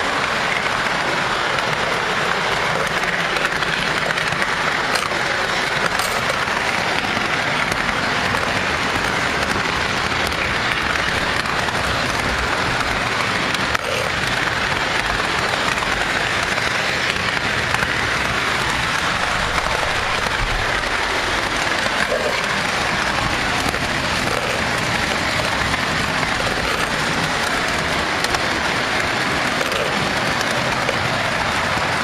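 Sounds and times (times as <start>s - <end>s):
toy train wheels clattering on rails: 0.0s - 32.0s.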